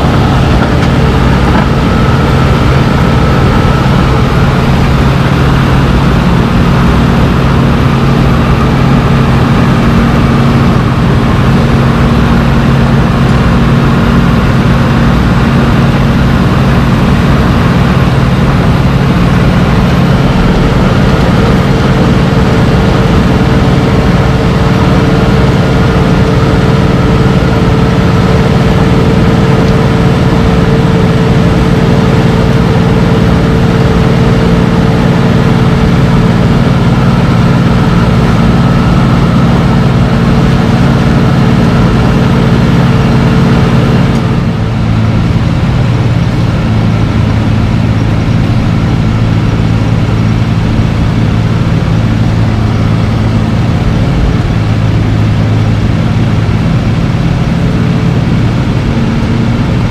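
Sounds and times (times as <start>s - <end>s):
heavy diesel machine drone: 0.0s - 59.9s
high hum: 0.0s - 59.9s.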